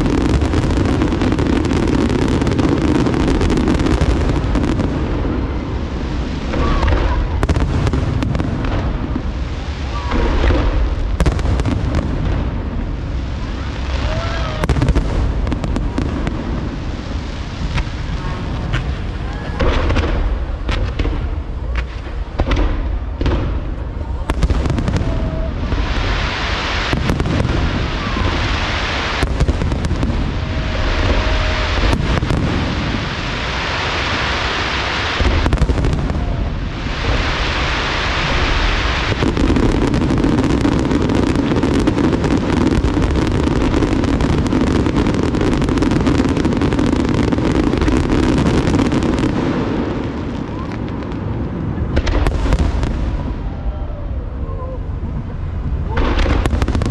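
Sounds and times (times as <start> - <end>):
fireworks bursting with bangs: 0.0 - 56.9
fireworks hissing crackle: 0.0 - 56.9.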